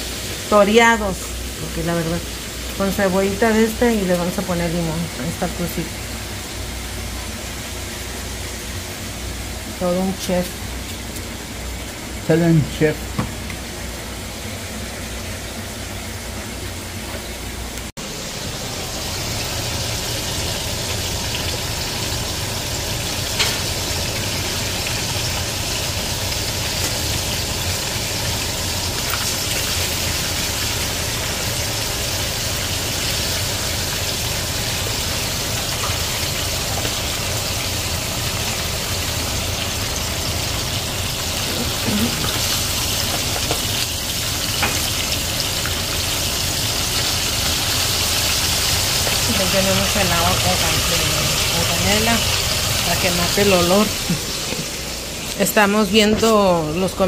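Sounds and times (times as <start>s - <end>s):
fish sizzling in hot oil: 0.0s - 13.0s, 18.0s - 55.5s.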